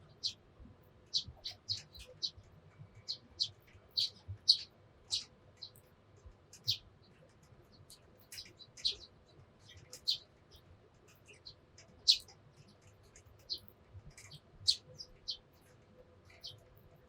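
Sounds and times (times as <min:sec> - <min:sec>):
sparrows chirping: 0:00.1 - 0:00.4, 0:01.0 - 0:05.8, 0:06.5 - 0:06.9, 0:07.8 - 0:15.7, 0:16.3 - 0:16.7.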